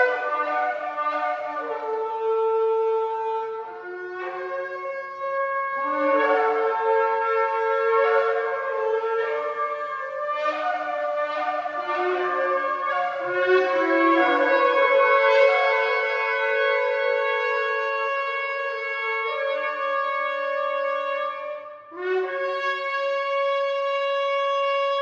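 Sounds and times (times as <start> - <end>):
shofars blowing long blasts: 0.0 - 25.0.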